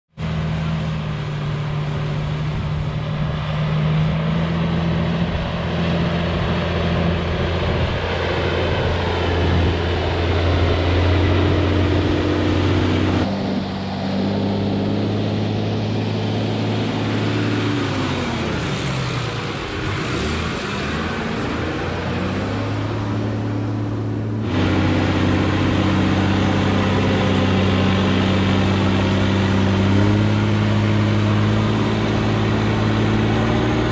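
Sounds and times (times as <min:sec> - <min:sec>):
truck engine droning: 0:00.1 - 0:33.9.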